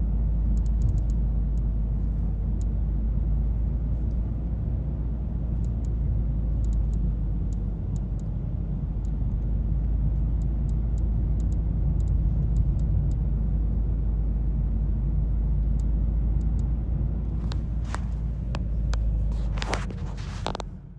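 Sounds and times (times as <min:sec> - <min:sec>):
car engine rumbling: 0:00.0 - 0:20.9.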